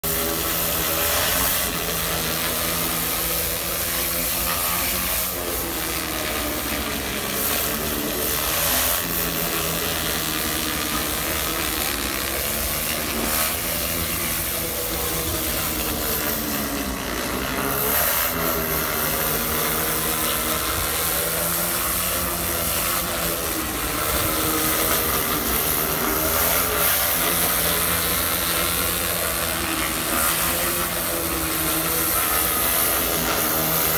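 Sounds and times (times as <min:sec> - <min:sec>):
pressure washer engine running: 0:00.0 - 0:33.9
surface cleaner spray hiss: 0:00.0 - 0:33.9.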